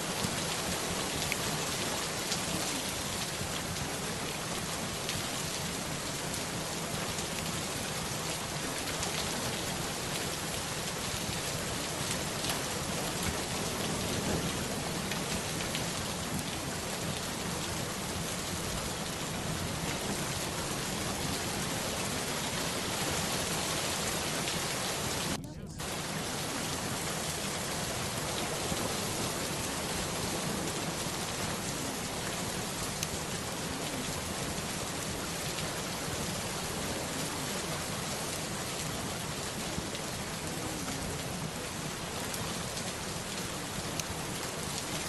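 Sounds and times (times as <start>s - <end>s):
steady rain falling: 0.0s - 45.0s
faint raindrop ticks: 0.1s - 23.6s, 24.2s - 45.0s.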